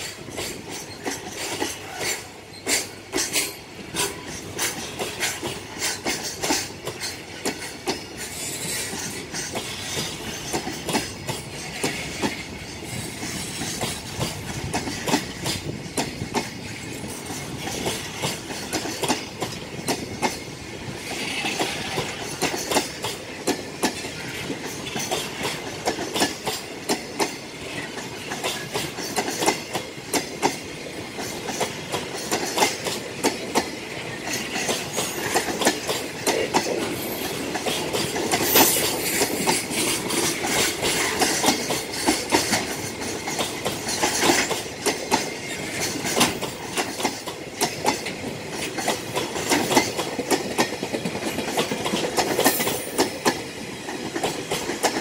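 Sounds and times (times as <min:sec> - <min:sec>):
freight train rolling: 0:00.0 - 0:55.0
wheels clicking over rail joints: 0:00.0 - 0:55.0.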